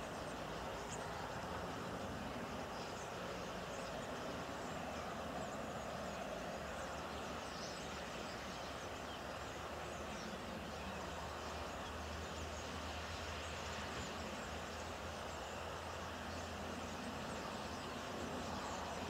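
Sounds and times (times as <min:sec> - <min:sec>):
low rumble and hiss: 0:00.0 - 0:19.0
starlings chirping: 0:00.0 - 0:19.0.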